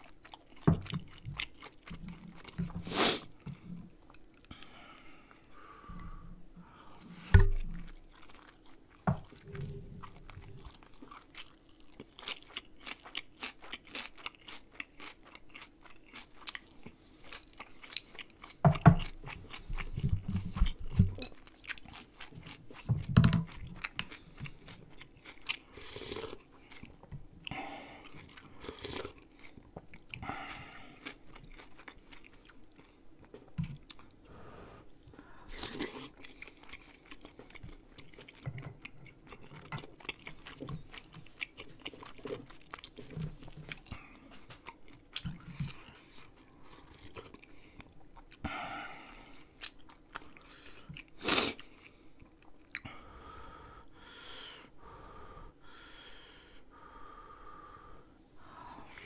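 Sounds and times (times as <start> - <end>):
close chewing and mouth clicks: 0.0 - 6.1, 7.4 - 34.3, 34.9 - 52.9.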